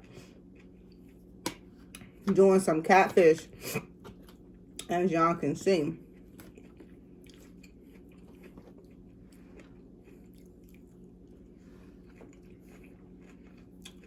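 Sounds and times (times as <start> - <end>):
person chewing food: 0.0 - 2.3, 3.5 - 4.9, 6.0 - 14.0.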